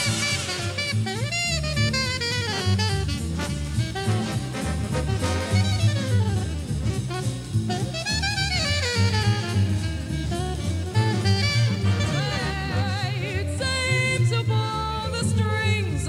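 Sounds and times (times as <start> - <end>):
drum kit: 0.0 - 13.4
saxophone solo: 0.0 - 15.7
bass: 0.0 - 16.0.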